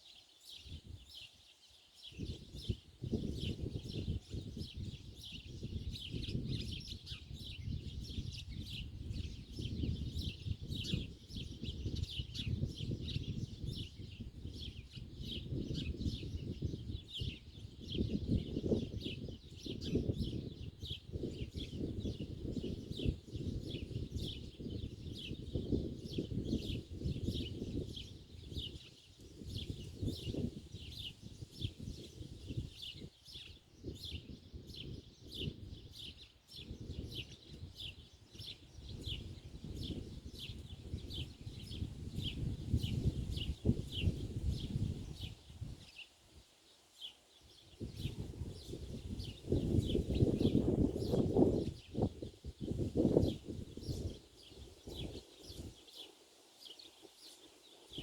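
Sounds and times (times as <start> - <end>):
small bird chirping: 2.0 - 46.1, 52.8 - 58.0.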